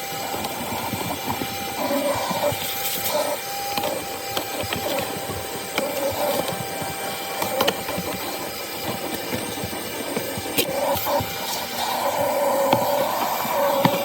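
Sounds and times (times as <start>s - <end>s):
vacuum motor whine: 0.0s - 14.0s.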